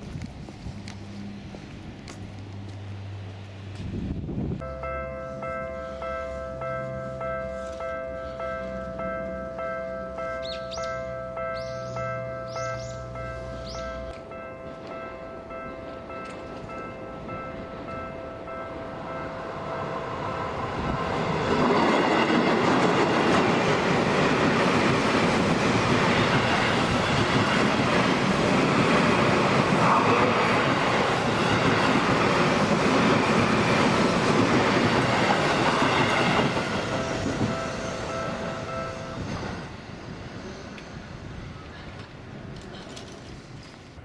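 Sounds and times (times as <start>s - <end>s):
train passing: 0.0s - 44.0s
level crossing warning bell: 4.6s - 40.6s.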